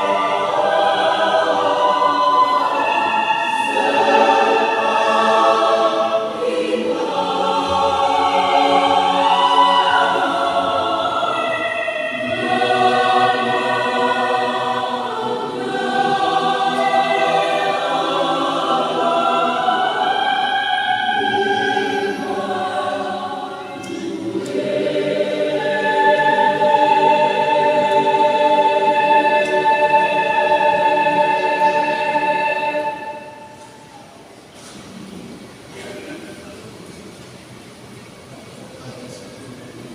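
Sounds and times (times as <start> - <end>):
youth choir singing: 0.0 - 34.5.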